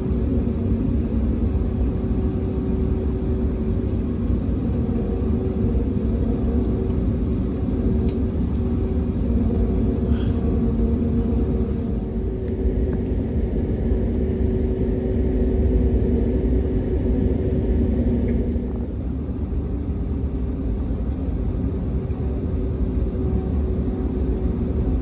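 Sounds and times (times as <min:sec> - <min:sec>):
aircraft cabin engine hum: 0:00.0 - 0:25.0.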